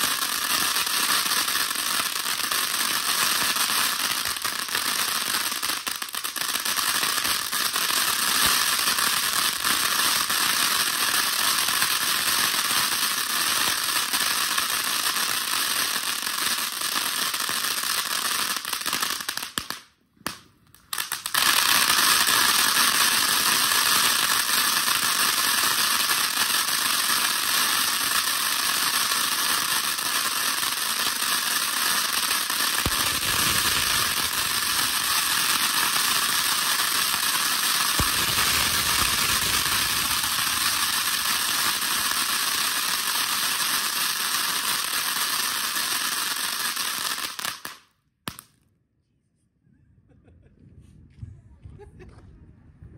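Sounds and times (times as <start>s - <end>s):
firework fountain hissing: 0.0s - 16.2s, 20.9s - 48.4s.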